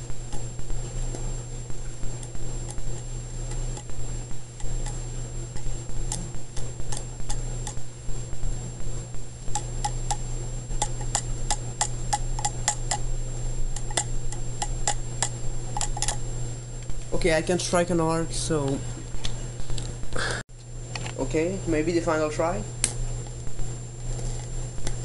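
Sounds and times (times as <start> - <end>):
carbon arc electrode clicks: 0.0 - 20.0, 22.8 - 23.7
steady low hum: 0.0 - 25.0.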